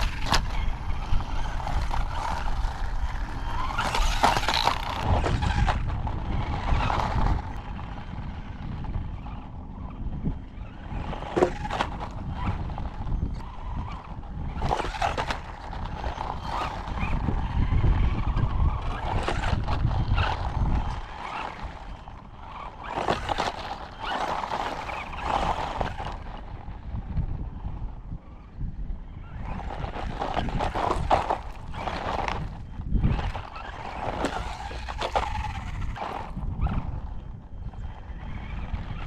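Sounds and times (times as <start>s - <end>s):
tyres crunching on gravel: 0.0s - 9.5s, 10.6s - 27.0s, 29.3s - 39.0s
toy car motor whining: 0.0s - 39.0s.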